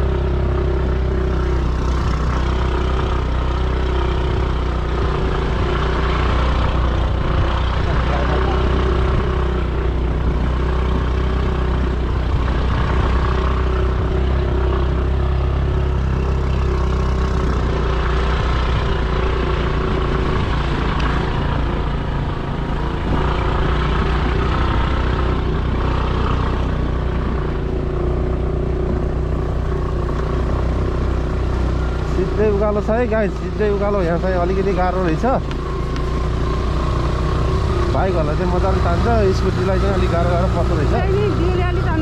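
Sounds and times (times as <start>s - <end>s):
road noise: 0.0s - 42.0s.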